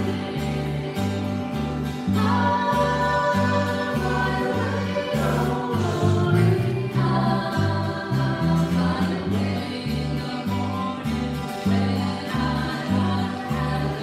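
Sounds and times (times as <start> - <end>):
acoustic guitars strumming: 0.0 - 14.0
voices singing slow song: 0.0 - 14.0.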